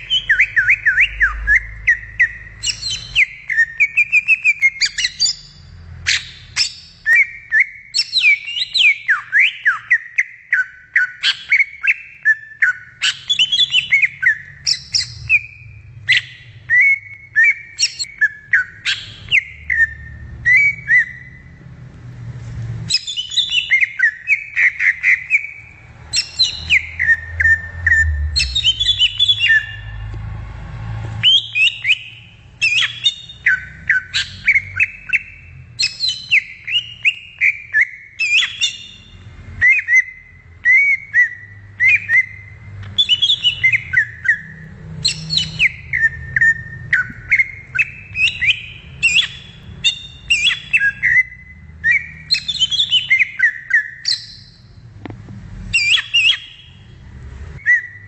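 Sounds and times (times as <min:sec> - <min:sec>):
bird whistling phrases: 0:00.0 - 0:21.5, 0:22.9 - 0:30.0, 0:31.2 - 0:54.6, 0:55.7 - 0:56.8, 0:57.6 - 0:58.0.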